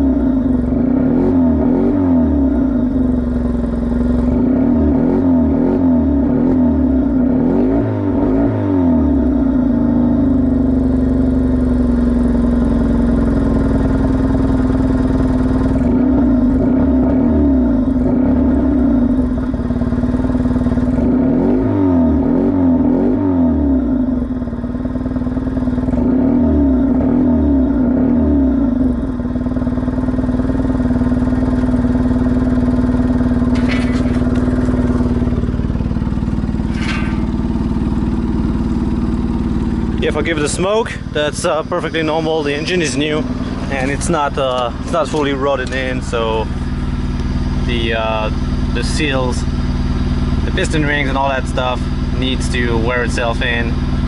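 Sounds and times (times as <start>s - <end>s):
car engine idling unevenly: 0.0s - 54.0s.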